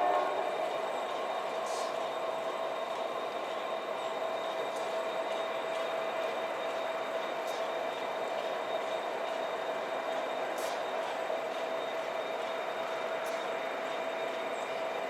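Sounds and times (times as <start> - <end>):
train rolling on rails: 0.0 - 15.0.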